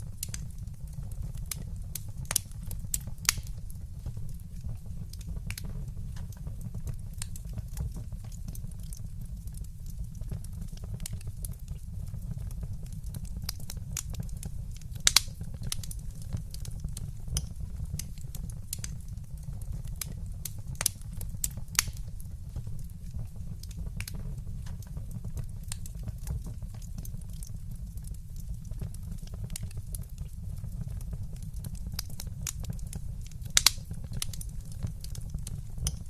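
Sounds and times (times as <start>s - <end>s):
fireplace fire crackling: 0.0s - 36.0s
loud fire pops: 0.1s - 36.0s.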